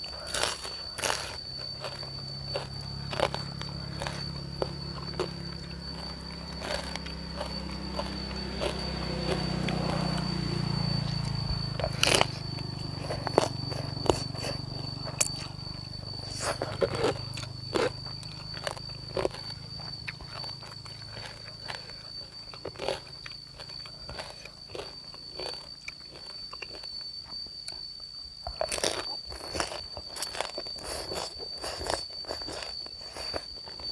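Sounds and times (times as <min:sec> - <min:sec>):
wet chewing and slurping: 0:00.0 - 0:27.8, 0:28.4 - 0:33.9
crunchy bites: 0:00.0 - 0:33.9
steady high-pitched tone: 0:00.0 - 0:33.9.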